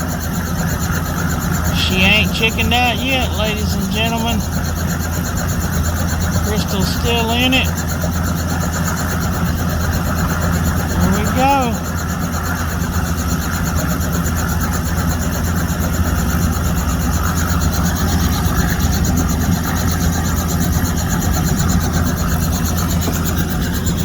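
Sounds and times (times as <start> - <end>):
helicopter engine and rotor drone: 0.0 - 24.0.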